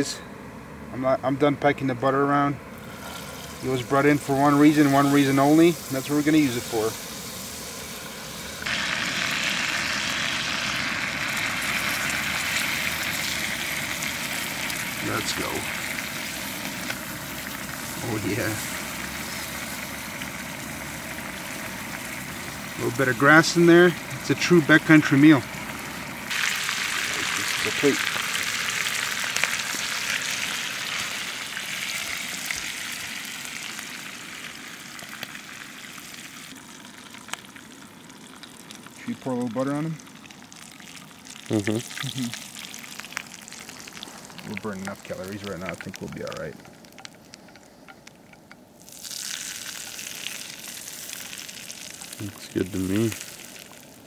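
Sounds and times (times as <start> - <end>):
meat sizzling in butter: 2.8 - 54.0.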